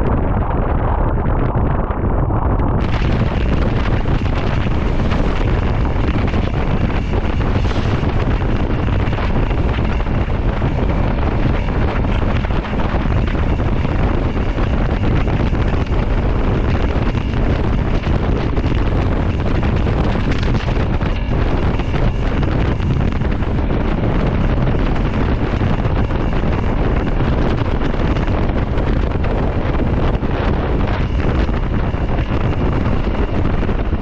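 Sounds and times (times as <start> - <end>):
wind rushing over microphone: 0.0 - 34.0
road and vehicle noise: 2.8 - 34.0.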